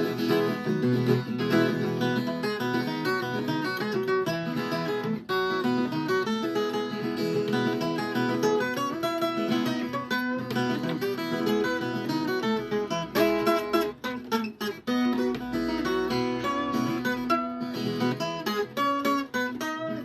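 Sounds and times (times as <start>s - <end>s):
folk guitar instrumental: 0.0s - 20.0s.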